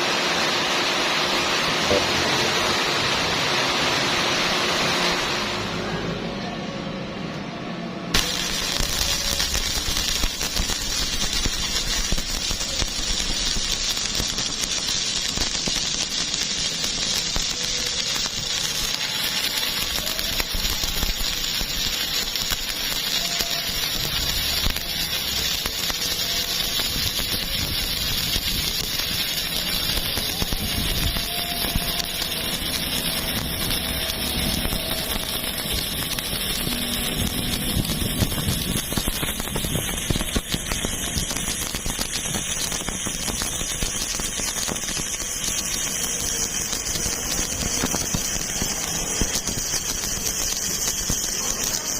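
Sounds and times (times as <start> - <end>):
welding arc crackling and hissing: 0.0 - 6.2, 8.1 - 51.9.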